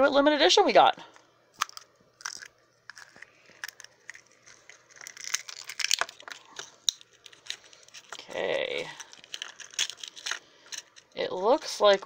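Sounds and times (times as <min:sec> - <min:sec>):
plastic egg shell crackling: 0:01.5 - 0:12.0.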